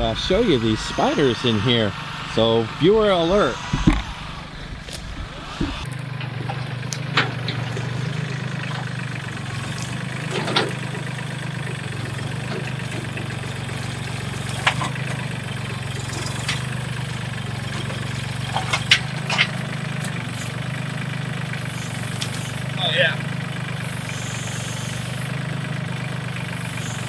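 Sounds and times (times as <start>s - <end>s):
forklift engine idling: 0.0s - 27.0s.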